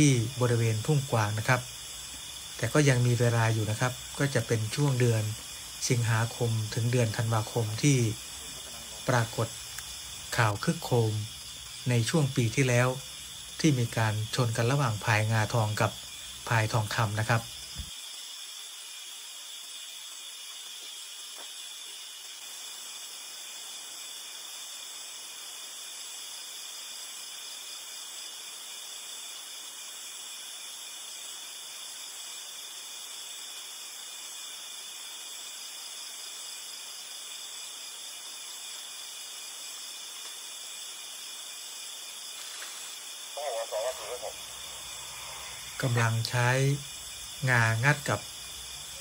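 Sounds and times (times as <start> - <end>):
night insects chirping: 0.0 - 49.0.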